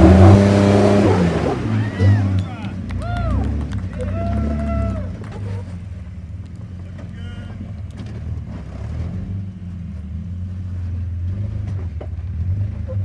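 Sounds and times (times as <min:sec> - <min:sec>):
off-road vehicle engine low revs: 0:00.0 - 0:13.0.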